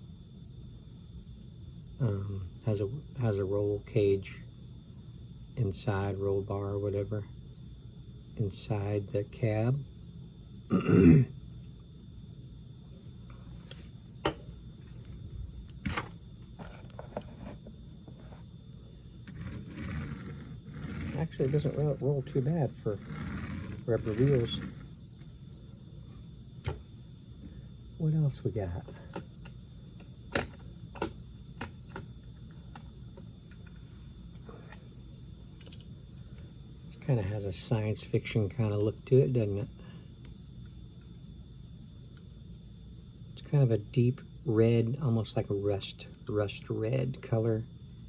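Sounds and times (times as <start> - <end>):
low background hum: 0.0 - 48.0.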